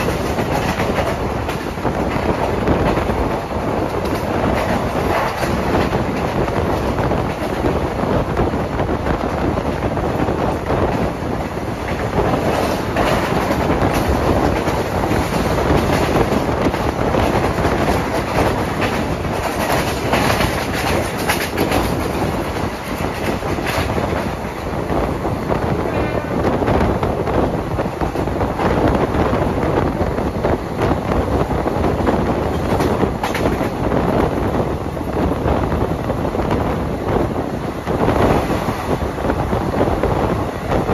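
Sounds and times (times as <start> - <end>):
wheels clacking over rail joints: 0.0 - 25.6, 26.4 - 40.9
train wheels rumbling on rail: 0.0 - 40.9.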